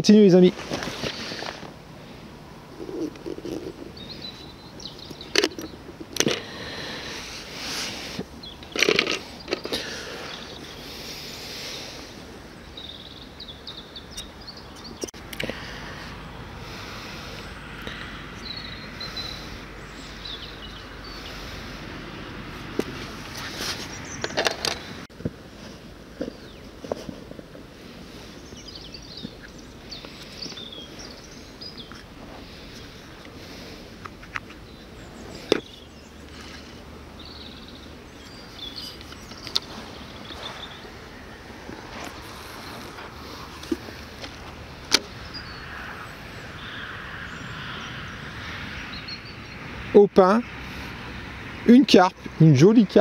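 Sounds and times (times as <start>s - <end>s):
small birds chirping: 0.0s - 21.9s, 22.6s - 25.1s, 26.0s - 53.0s
steady outdoor hiss: 0.0s - 53.0s.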